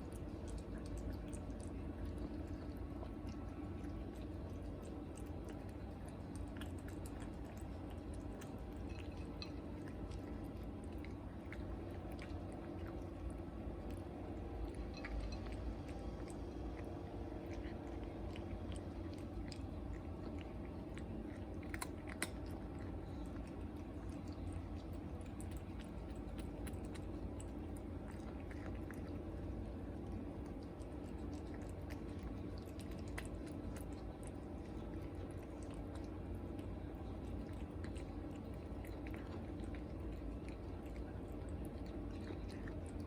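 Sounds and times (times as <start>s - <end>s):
cat chewing food: 0.0s - 43.0s.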